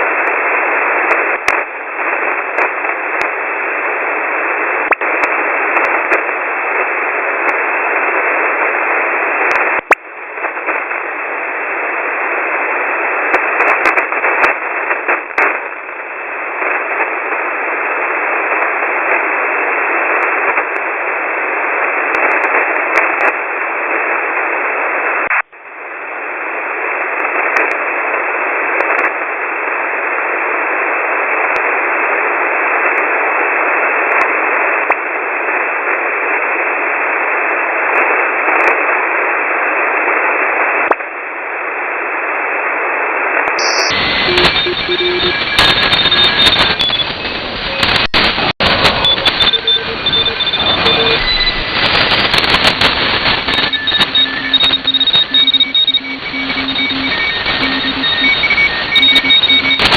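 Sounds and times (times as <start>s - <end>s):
shortwave radio static hiss: 0.0s - 59.9s.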